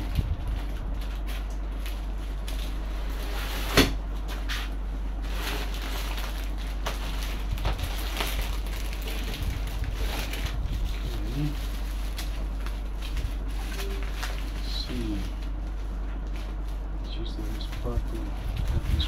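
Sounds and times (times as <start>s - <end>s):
packaging crinkling: 0.0s - 4.5s, 5.2s - 19.0s.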